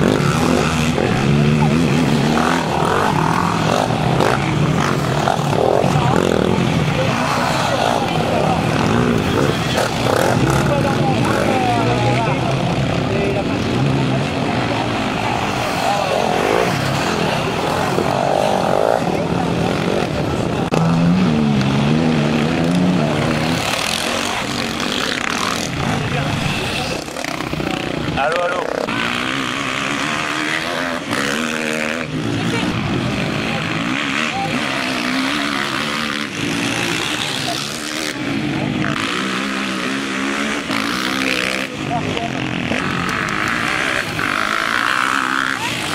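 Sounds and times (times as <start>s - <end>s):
quad engines revving: 0.0s - 45.9s
rough noisy sound: 0.0s - 45.9s.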